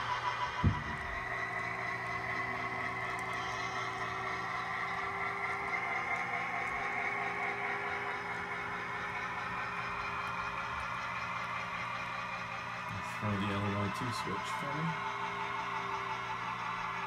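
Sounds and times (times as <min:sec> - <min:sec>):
faint motor whine: 0:00.0 - 0:17.0
model train mechanical drone: 0:00.0 - 0:17.0.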